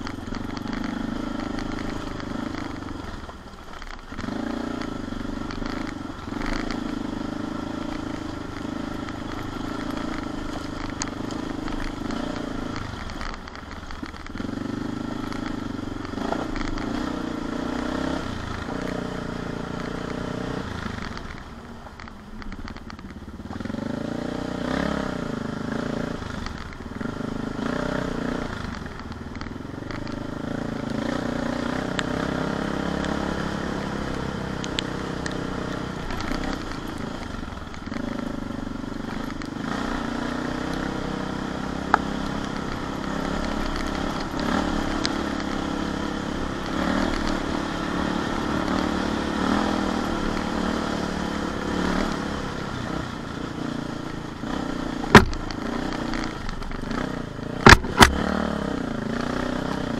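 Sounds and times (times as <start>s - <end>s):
motorcycle engine at low revs: 0.0s - 59.9s
motorcycle rattling over bumps: 0.0s - 59.9s.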